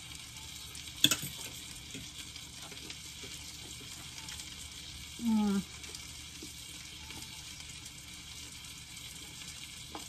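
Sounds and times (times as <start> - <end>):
frying pan sizzling: 0.0 - 10.0.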